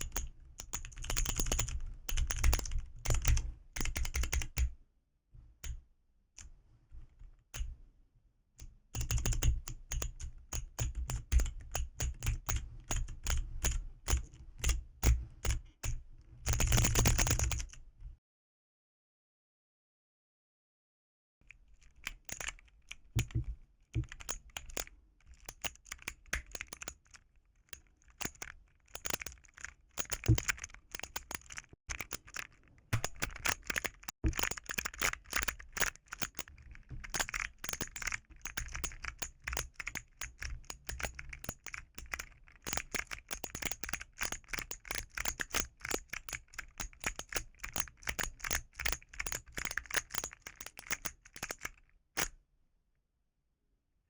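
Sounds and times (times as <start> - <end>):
plastic keyboard keys clicking: 0.0 - 4.6, 9.0 - 14.8, 15.4 - 17.8, 21.8 - 52.3.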